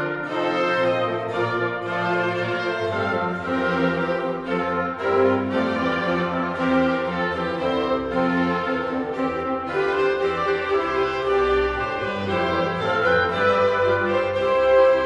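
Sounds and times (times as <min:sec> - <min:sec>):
orchestral music with strings and brass: 0:00.0 - 0:15.0.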